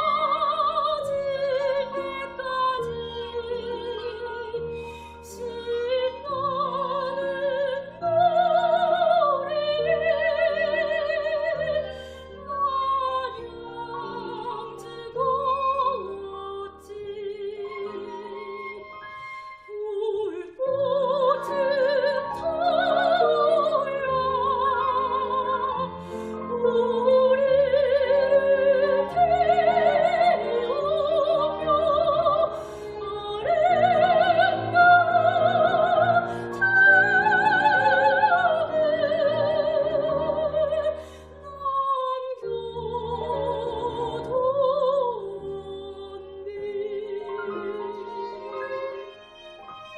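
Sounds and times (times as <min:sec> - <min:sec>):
piano: 0:00.0 - 0:49.9
soprano singing with vibrato: 0:00.0 - 0:49.9
violin: 0:00.0 - 0:49.9.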